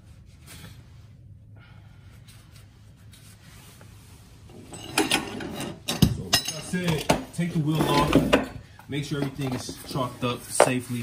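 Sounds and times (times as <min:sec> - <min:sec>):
work gloves rustling: 0:02.0 - 0:11.0.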